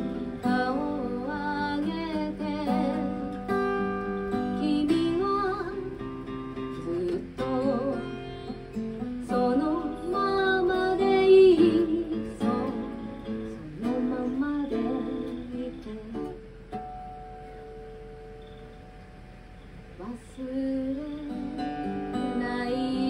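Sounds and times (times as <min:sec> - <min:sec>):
woman singing: 0:00.0 - 0:16.6, 0:20.0 - 0:23.0
acoustic guitar: 0:00.0 - 0:23.0.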